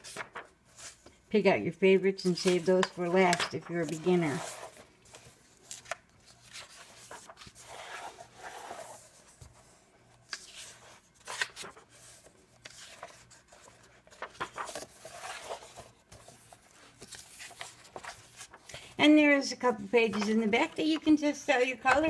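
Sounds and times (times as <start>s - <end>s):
book pages being turned: 0.0s - 1.2s, 2.2s - 18.9s, 19.7s - 22.0s.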